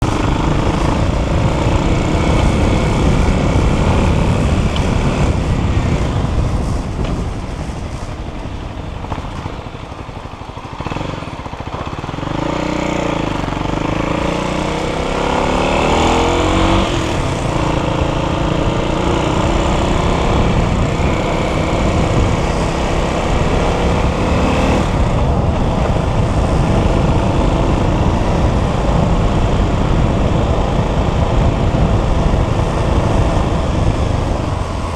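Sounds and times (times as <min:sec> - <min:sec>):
dirt bike engine running: 0:00.0 - 0:34.9
heavy wind noise: 0:00.0 - 0:34.9.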